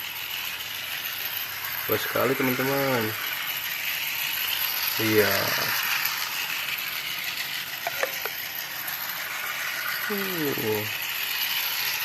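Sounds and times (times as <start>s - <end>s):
toy trains whirring and rattling: 0.0s - 12.0s.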